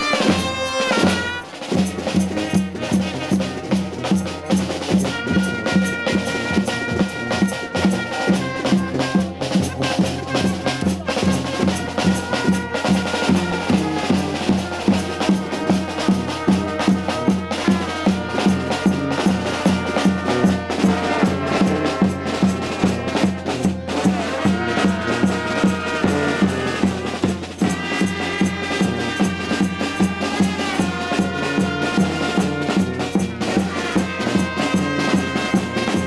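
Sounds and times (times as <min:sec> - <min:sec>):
music with driving beat: 0:00.0 - 0:36.0.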